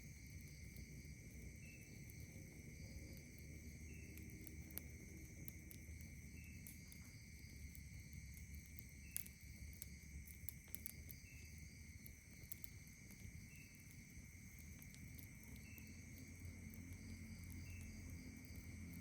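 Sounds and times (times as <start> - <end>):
campfire crackles: 0.0 - 19.0
night insects trilling: 0.0 - 19.0
short insect chirp: 0.0 - 19.0.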